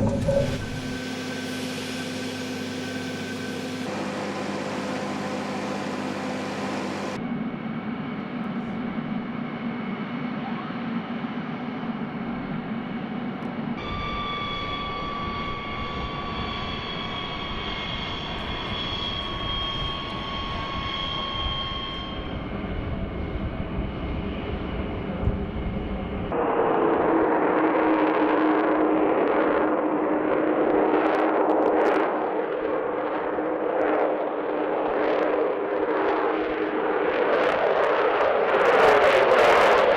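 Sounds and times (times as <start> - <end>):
jet engine whine: 0.0 - 39.9.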